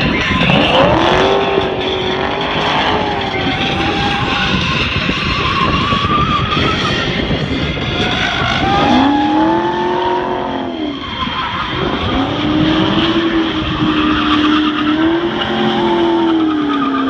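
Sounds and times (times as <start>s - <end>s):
engine at high revs: 0.0s - 5.1s, 7.9s - 17.0s
tyres squealing: 0.0s - 17.0s.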